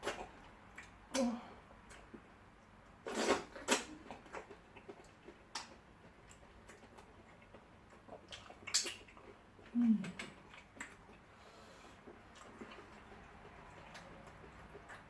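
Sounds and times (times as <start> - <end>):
mouth clicks and smacks chewing: 0.0 - 15.0.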